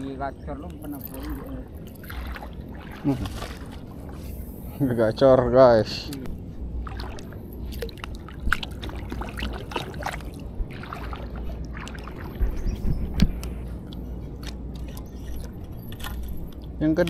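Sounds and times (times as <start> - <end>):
shallow water sloshing: 0.0 - 4.8, 6.3 - 16.8.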